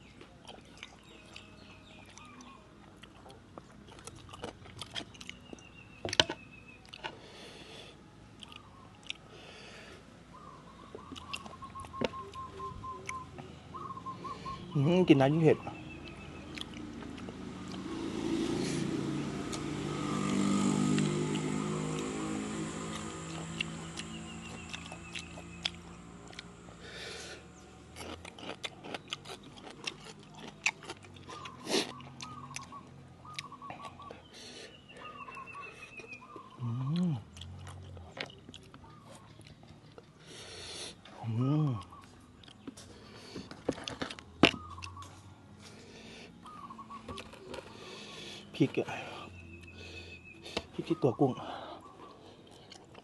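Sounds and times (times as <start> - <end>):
close chewing with crunches: 0.0 - 7.5, 8.3 - 9.3, 10.9 - 13.2, 15.8 - 17.9, 19.4 - 53.0.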